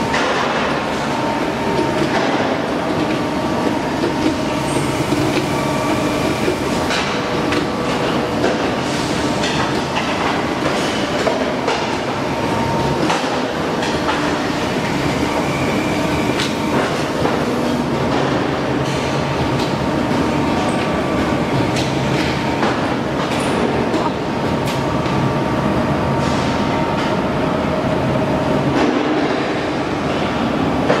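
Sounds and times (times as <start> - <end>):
factory machinery din: 0.0 - 31.0.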